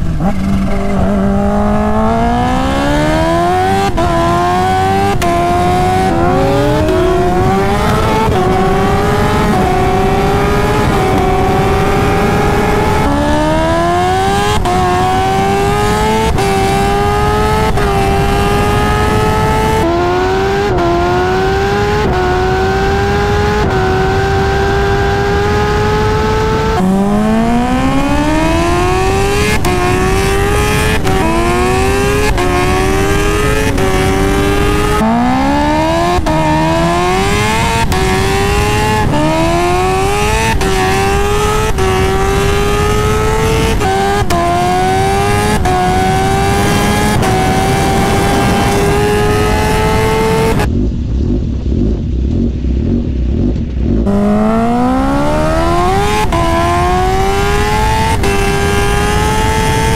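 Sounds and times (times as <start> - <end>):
motorcycle engine at full throttle: 0.0 - 59.9.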